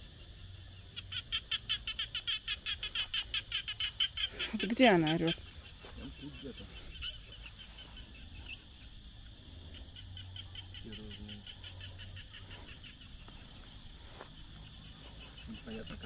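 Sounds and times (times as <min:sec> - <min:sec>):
high-pitched insect whine: 0:00.0 - 0:16.0
low frog call: 0:00.0 - 0:16.0
rapid pulsed chirping: 0:00.0 - 0:16.0.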